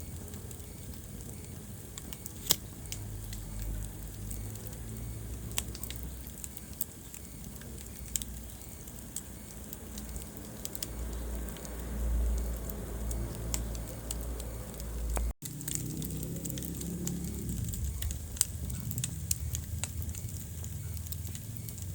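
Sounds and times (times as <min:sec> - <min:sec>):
fire crackling and popping: 0:00.0 - 0:21.9
low rumble of flames: 0:00.0 - 0:21.9.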